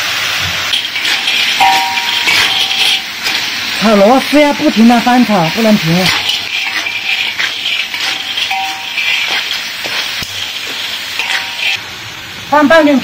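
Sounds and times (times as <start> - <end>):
sizzling in a wok: 0.0 - 13.0.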